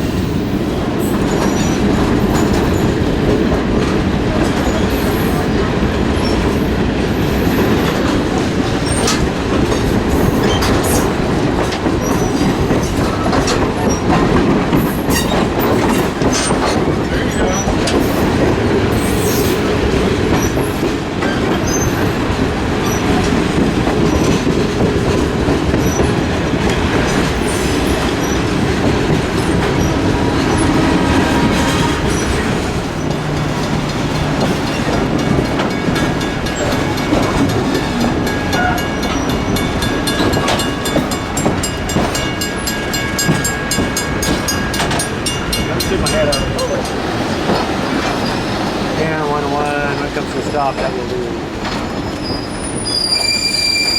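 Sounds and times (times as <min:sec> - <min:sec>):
train wheels clicking on rail joints: 0:00.0 - 0:53.9.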